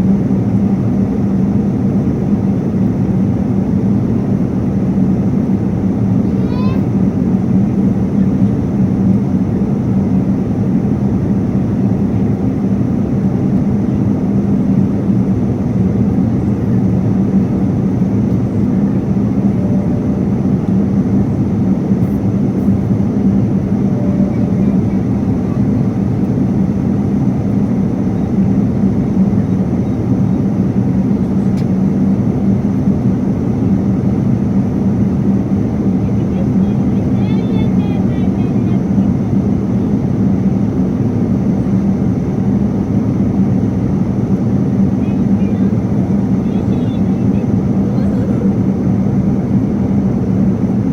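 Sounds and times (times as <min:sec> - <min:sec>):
constant low hum: 0:00.0 - 0:50.9
engine and airflow rush: 0:00.0 - 0:50.9.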